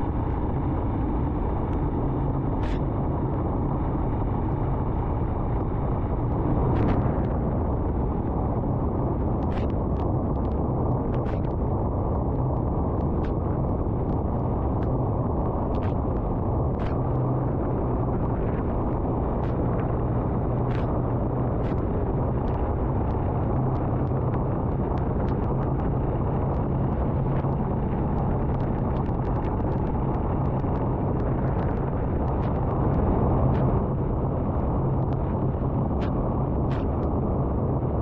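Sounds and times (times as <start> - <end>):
wind rumble on microphone: 0.0 - 38.0.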